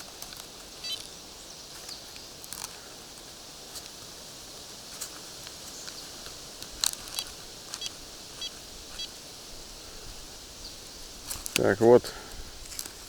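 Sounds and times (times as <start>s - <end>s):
faint high hiss: 0.0s - 13.0s.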